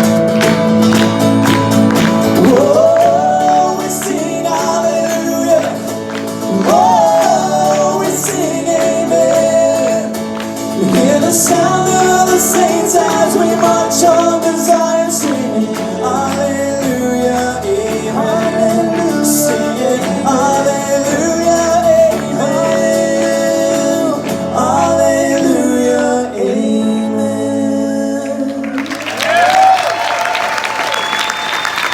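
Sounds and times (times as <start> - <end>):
applause: 0.0 - 25.6, 28.4 - 31.9
worship band and singers: 0.0 - 31.9.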